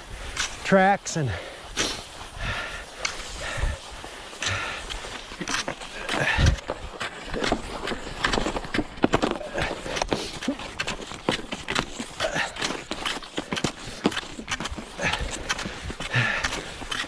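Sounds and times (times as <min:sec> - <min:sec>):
ski poles planting in snow: 0:00.0 - 0:17.0
skis scraping in snow tracks: 0:00.0 - 0:17.0.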